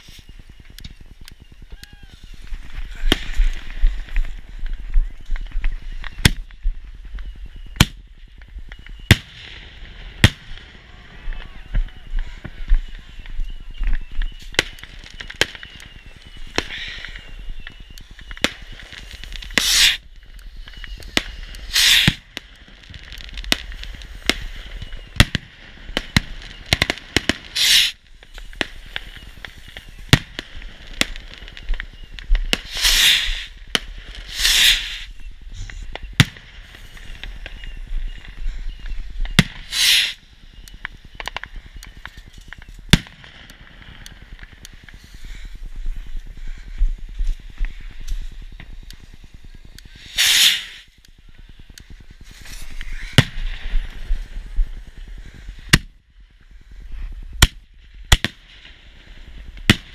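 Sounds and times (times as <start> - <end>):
fireworks popping and cracking: 0.0 - 59.9
loud firework bursts: 0.0 - 59.9.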